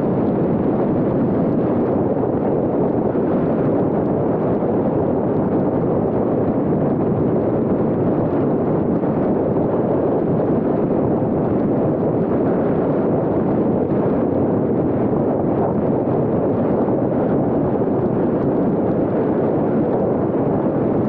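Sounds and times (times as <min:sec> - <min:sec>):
wind and road noise from car: 0:00.0 - 0:21.0.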